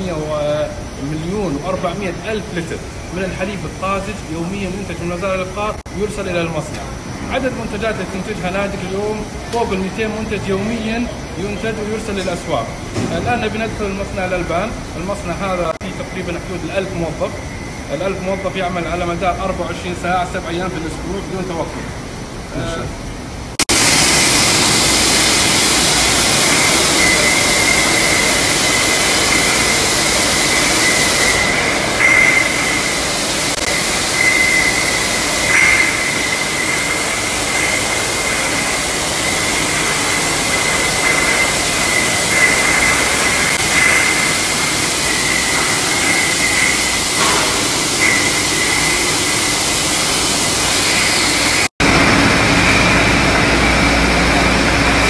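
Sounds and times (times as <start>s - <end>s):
machinery clanks: 0.0s - 22.0s, 23.0s - 55.0s
production line machinery whining: 0.0s - 55.0s.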